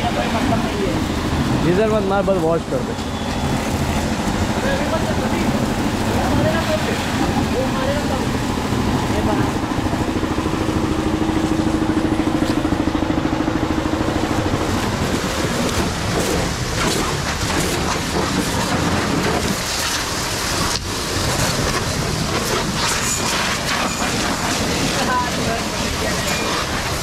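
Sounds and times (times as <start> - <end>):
pressure washer pump humming: 0.0 - 27.0
water spraying on car body: 0.0 - 27.0.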